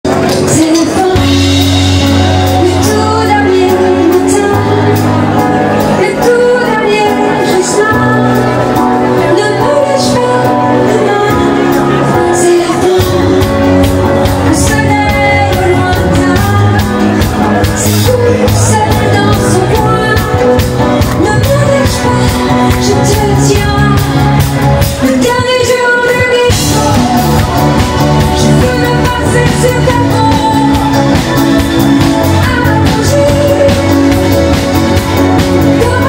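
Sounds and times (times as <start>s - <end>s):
dance-band music: 0.0s - 36.0s.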